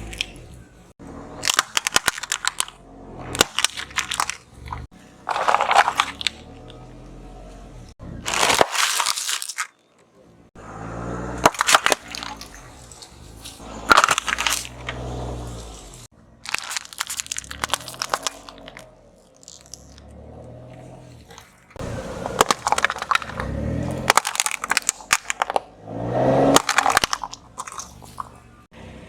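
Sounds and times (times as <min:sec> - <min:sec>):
car engine: 0:00.0 - 0:09.1, 0:10.0 - 0:29.0
tyres crushing drink cans: 0:01.4 - 0:06.8, 0:08.2 - 0:10.1, 0:11.3 - 0:20.3, 0:21.0 - 0:28.7.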